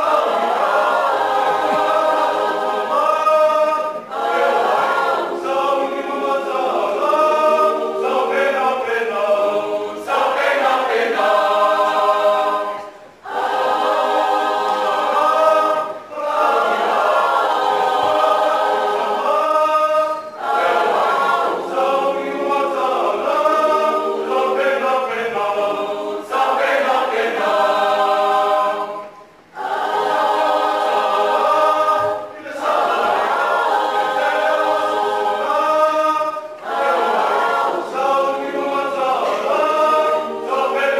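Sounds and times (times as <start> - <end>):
choir singing a cappella: 0.0 - 40.9.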